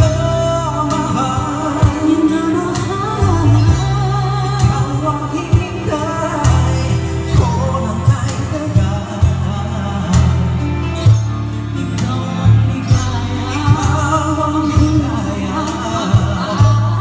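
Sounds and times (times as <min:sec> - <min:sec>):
pop song with vocals: 0:00.0 - 0:17.0.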